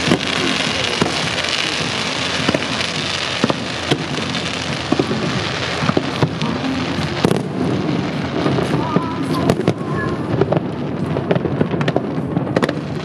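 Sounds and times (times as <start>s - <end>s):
fireworks bangs: 0.0s - 13.0s
fireworks hissing: 0.0s - 13.0s.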